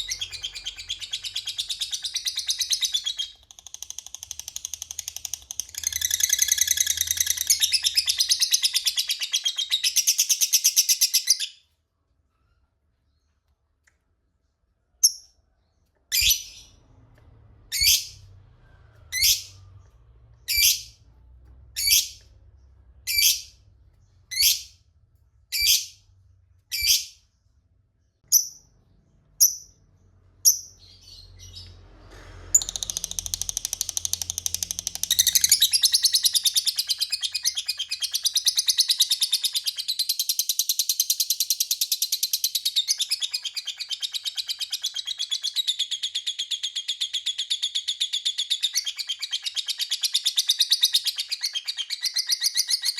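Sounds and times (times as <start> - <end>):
lovebird chirping: 0.0 - 11.6, 16.1 - 16.8, 17.7 - 18.3, 19.0 - 21.1, 21.8 - 22.4, 23.0 - 24.8, 25.5 - 27.3, 28.2 - 31.8, 32.6 - 52.9.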